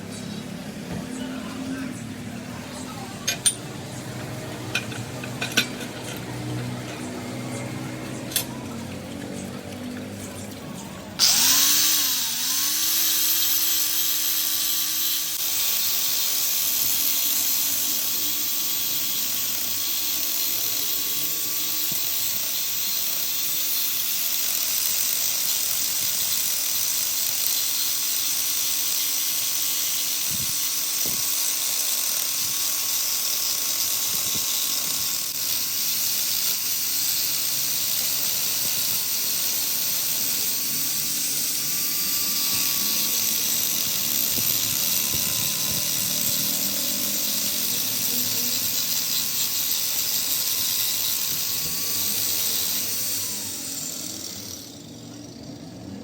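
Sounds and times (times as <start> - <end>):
power tool whining: 0.0 - 56.0.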